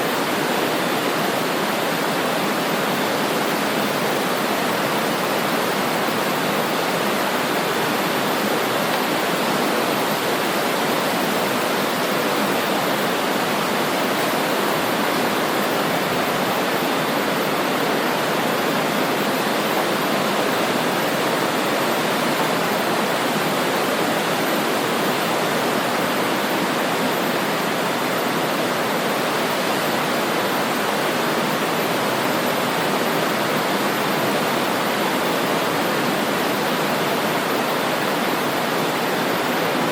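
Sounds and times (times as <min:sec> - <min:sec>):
fast-flowing river rushing: 0:00.0 - 0:39.9.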